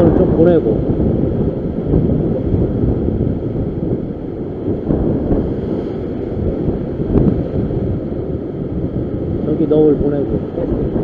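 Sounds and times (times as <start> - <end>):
surf breaking over rocks: 0.0 - 11.0
wind buffeting microphone: 0.0 - 11.0.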